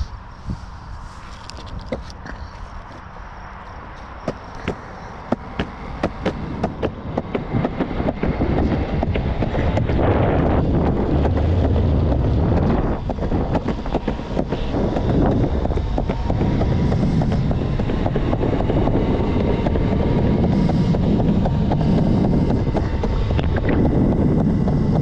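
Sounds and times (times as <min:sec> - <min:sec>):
wheels rumbling on road: 0:00.0 - 0:25.0
wind noise on microphone: 0:00.0 - 0:25.0
skateboard wheels clicking: 0:03.9 - 0:25.0.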